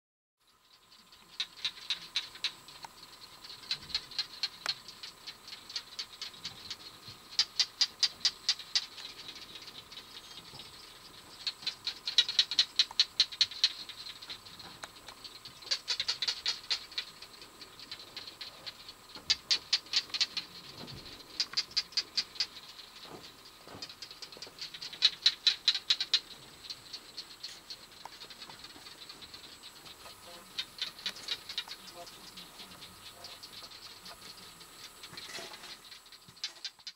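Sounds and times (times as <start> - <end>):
geckos calling with rapid clicks: 0.4 - 36.9.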